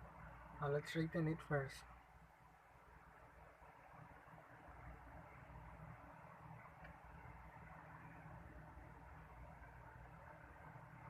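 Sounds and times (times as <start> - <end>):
low room hum and hiss: 0.0 - 11.0.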